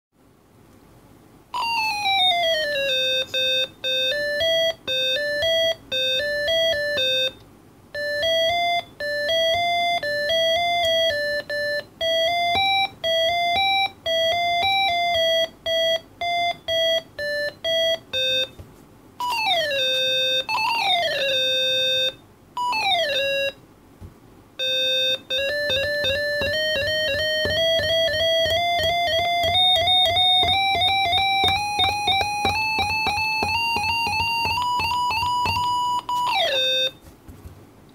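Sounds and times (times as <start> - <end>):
electronic beeping melody: 1.6 - 7.4, 8.0 - 18.6, 19.2 - 23.6, 24.6 - 37.0.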